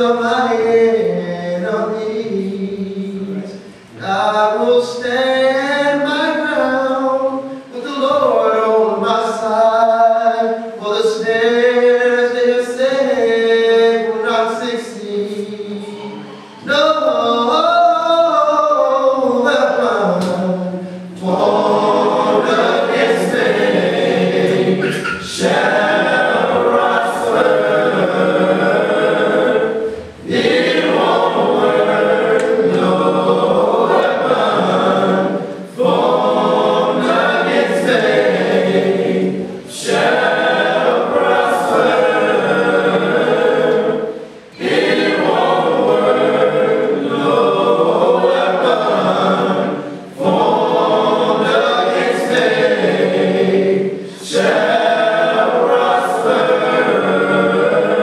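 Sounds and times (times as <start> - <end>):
choir singing gospel song: 0.0 - 58.0.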